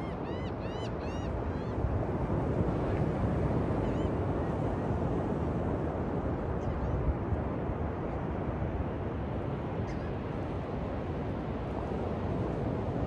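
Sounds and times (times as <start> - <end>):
ocean surf on a beach: 0.0 - 13.0.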